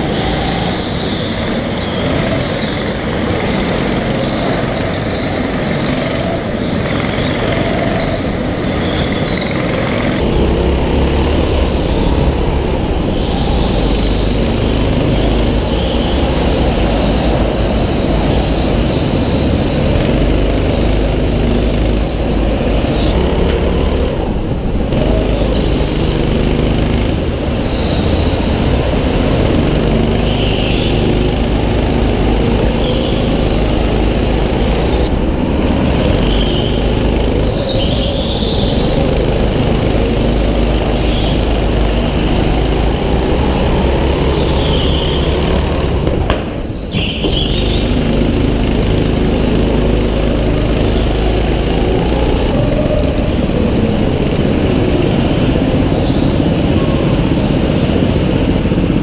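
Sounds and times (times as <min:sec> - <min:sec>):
tyre squeals: 0:00.0 - 0:53.4, 0:55.8 - 0:58.0
kart engine revving: 0:00.0 - 0:59.0.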